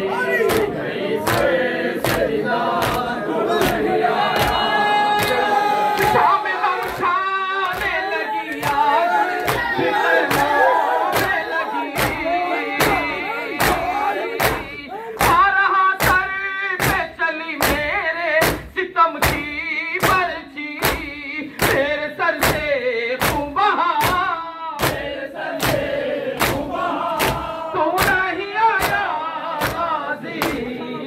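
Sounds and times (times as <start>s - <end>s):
group chanting a lament: 0.0s - 31.0s
hands striking chests in unison: 0.4s - 30.8s.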